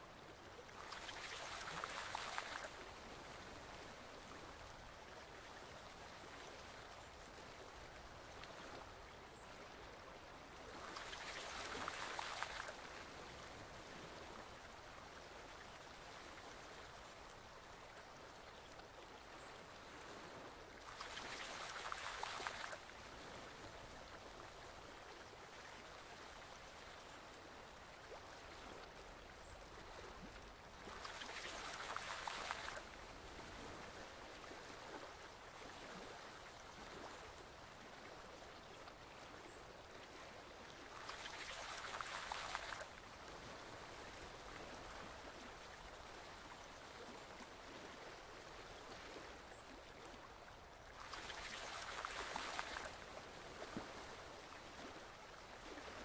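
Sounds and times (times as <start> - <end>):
forest stream flowing: 0.0 - 56.0.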